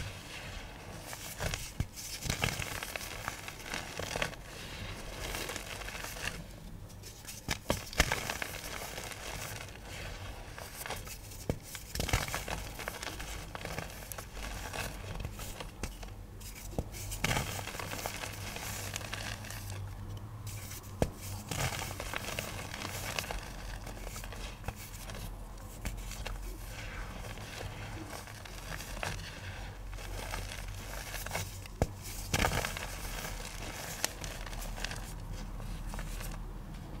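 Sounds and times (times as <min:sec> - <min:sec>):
powder crunching and crackling: 0:00.0 - 0:36.5.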